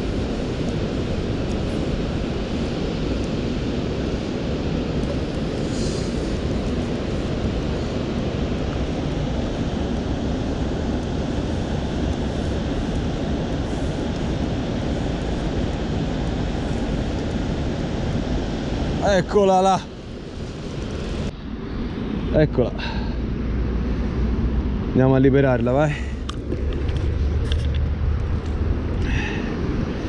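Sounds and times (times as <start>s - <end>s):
river rushing over a weir: 0.0s - 30.0s.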